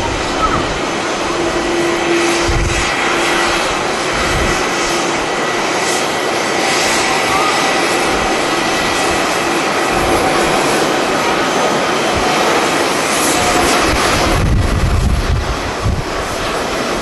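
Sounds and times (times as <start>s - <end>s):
jet engines running: 0.0s - 17.0s
wind buffeting microphone: 0.0s - 17.0s.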